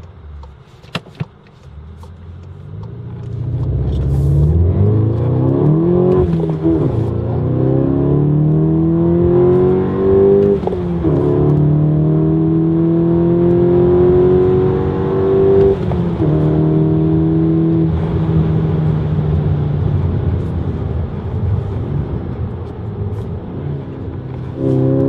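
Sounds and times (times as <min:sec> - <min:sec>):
car engine accelerating: 0:01.6 - 0:25.0.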